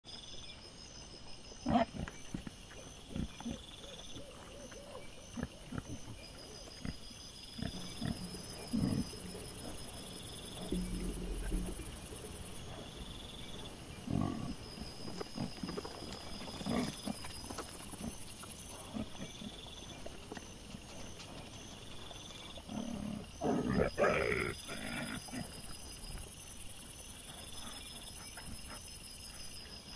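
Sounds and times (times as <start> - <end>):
night insects chirping: 0.1 - 29.9
wild boars grunting and snuffling: 0.3 - 29.9.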